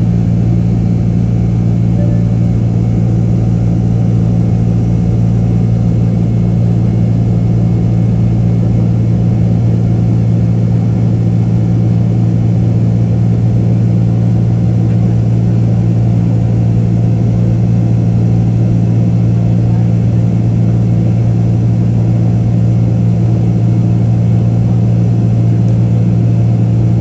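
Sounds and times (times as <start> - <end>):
jet engine drone in cabin: 0.0 - 27.0.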